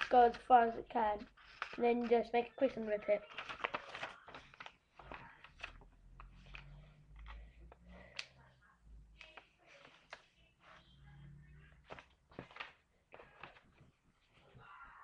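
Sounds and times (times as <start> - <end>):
paper being folded: 0.0 - 8.3, 9.2 - 10.8, 11.8 - 14.5.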